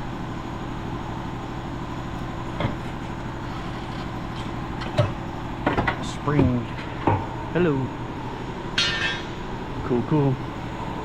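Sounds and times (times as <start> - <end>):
auto shop background hum: 0.0 - 11.0.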